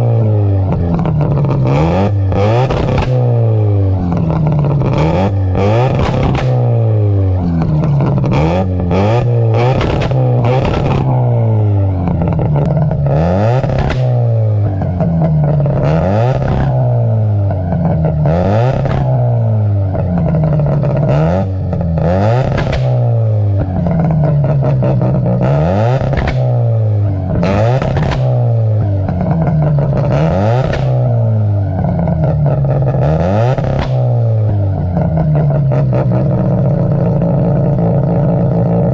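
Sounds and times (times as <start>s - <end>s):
rotary engine revving: 0.0s - 38.9s.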